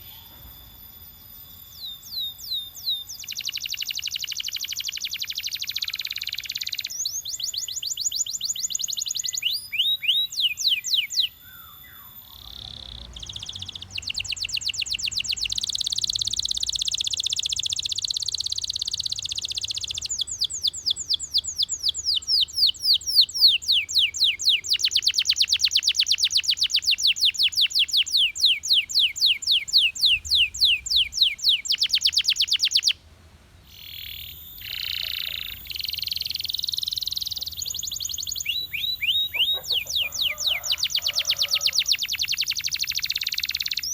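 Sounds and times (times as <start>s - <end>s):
canary singing trills: 0.0s - 33.0s, 33.6s - 43.9s.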